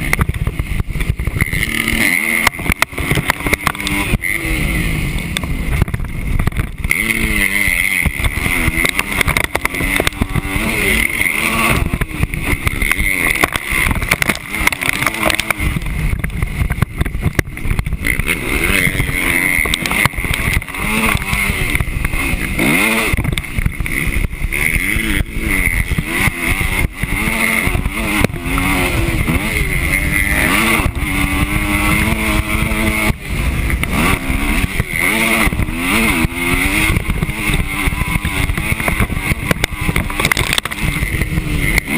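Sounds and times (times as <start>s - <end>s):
motocross bike engine revving: 0.0s - 41.9s
wind and track noise: 0.0s - 41.9s.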